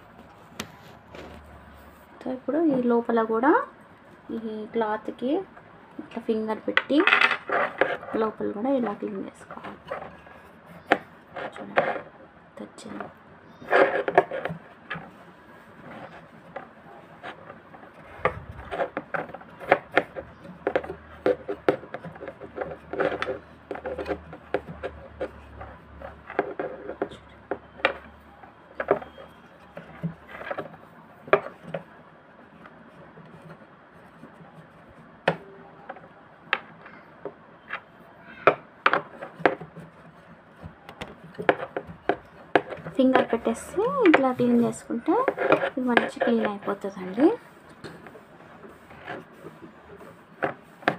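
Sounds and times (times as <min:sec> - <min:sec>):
small knocks and scrapes: 0:00.0 - 0:03.4, 0:04.0 - 0:50.9.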